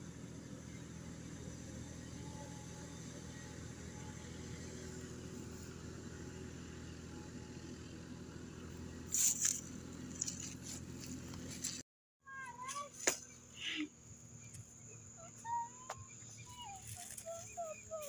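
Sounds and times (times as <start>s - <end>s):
distant tractor engine droning: 0.0s - 18.0s.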